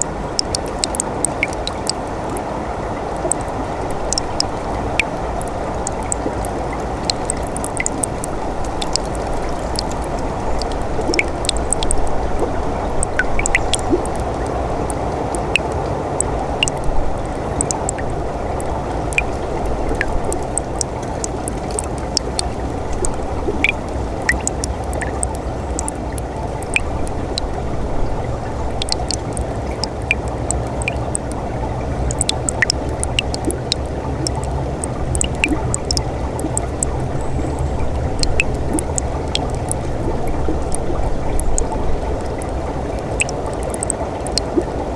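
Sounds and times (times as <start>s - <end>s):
stream flowing and gurgling: 0.0s - 44.9s
water drips and splashes: 0.0s - 44.9s.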